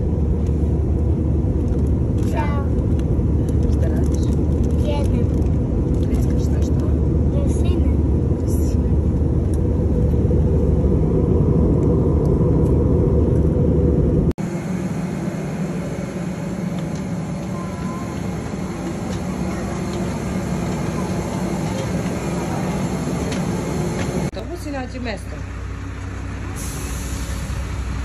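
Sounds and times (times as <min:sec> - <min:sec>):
airliner cabin rumble: 0:00.0 - 0:24.8
aircraft mechanical hum: 0:00.0 - 0:28.0.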